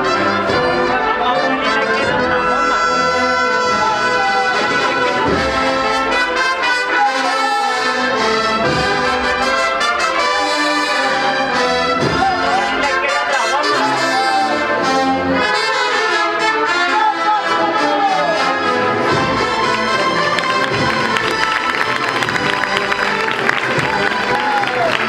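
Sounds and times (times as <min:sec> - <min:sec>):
brass band playing a march: 0:00.0 - 0:25.0.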